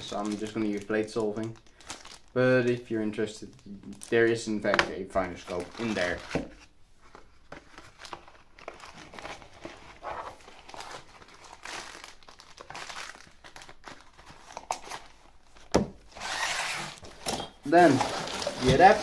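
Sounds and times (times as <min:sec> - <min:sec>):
plastic bag crinkling: 0:00.0 - 0:06.3, 0:07.8 - 0:15.7, 0:16.9 - 0:19.0.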